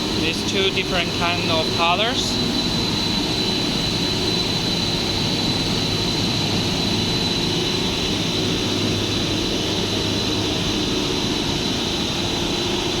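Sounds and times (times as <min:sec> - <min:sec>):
machinery mechanical drone: 0:00.0 - 0:13.0
thin high whine: 0:00.0 - 0:13.0.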